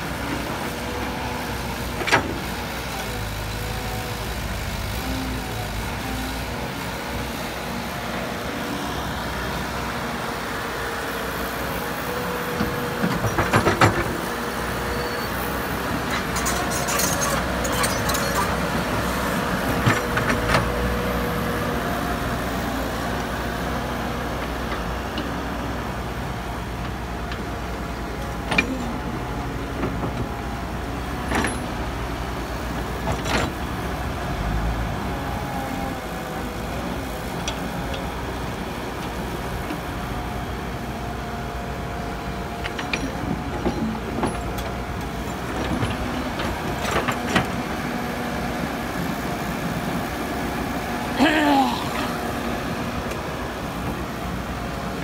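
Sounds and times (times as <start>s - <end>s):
excavator engine with hydraulic whine: 0.0s - 55.0s.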